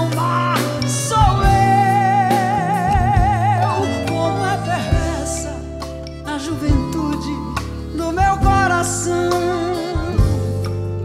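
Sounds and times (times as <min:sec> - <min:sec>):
woman singing with vibrato: 0:00.0 - 0:10.5
live band playing: 0:00.0 - 0:11.0.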